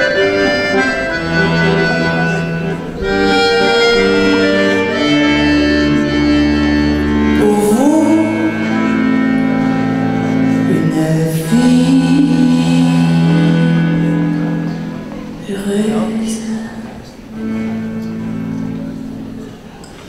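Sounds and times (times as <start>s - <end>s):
accordion chords: 0.0s - 19.9s.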